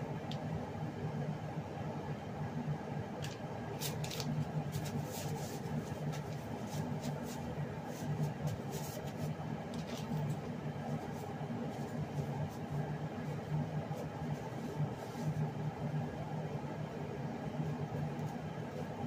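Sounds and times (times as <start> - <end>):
gas stove hum: 0.0 - 19.0.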